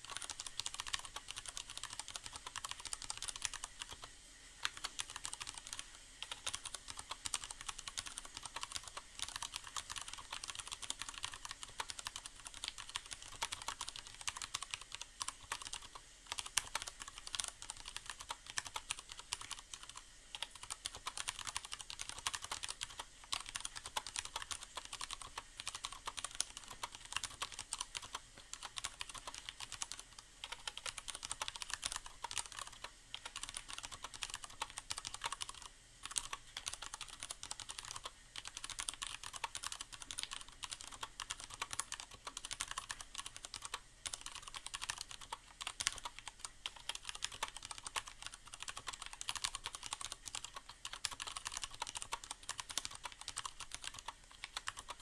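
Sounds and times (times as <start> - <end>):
fast keyboard typing: 0.0 - 55.0.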